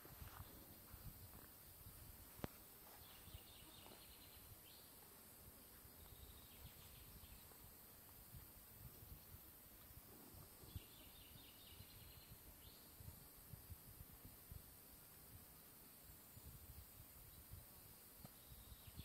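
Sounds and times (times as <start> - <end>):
faint bird song: 0.0 - 19.0
quiet background hiss: 0.0 - 19.0.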